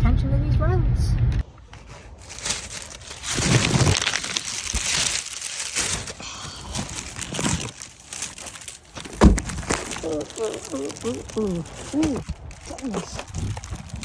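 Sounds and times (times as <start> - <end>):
crinkling handling noise: 1.4 - 14.0.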